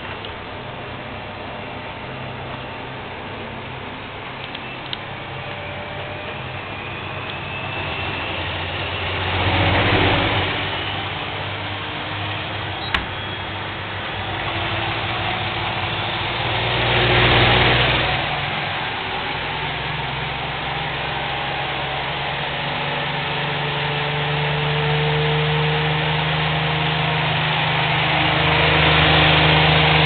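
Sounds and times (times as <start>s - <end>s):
washing machine and dryer humming: 0.0s - 30.0s.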